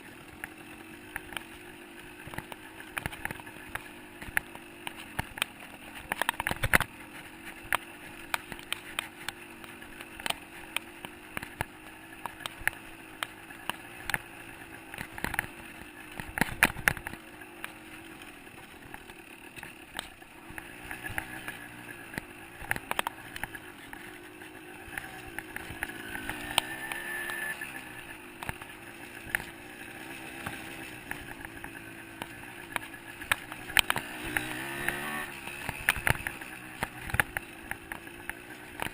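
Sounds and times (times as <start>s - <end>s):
dirt bike engine revving: 0.0s - 38.9s
sharp clicks and knocks: 0.2s - 38.9s.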